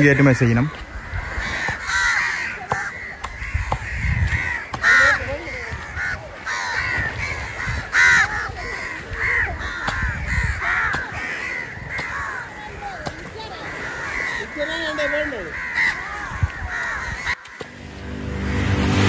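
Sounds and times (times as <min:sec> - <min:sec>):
crows cawing: 0:00.0 - 0:18.0.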